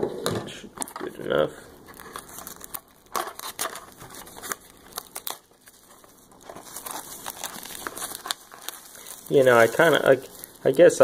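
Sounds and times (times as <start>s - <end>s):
plastic shrink wrap crinkling: 0.8s - 11.0s.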